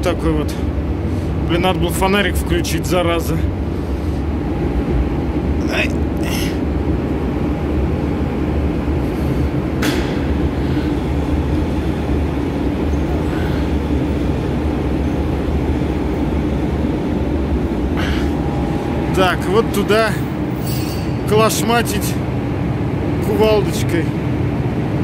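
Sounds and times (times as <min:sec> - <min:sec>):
machinery hum and rumble: 0:00.0 - 0:25.0.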